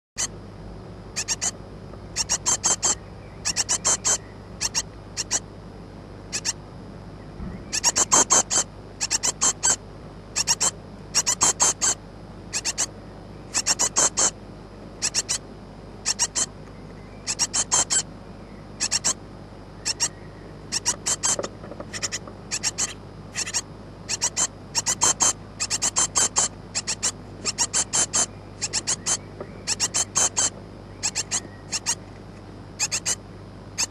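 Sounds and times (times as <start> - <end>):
steady low hum: 0.2 - 33.9
nestlings begging calls: 1.2 - 5.5, 6.3 - 6.6, 7.4 - 14.4, 15.0 - 19.2, 19.8 - 32.1, 32.8 - 33.2.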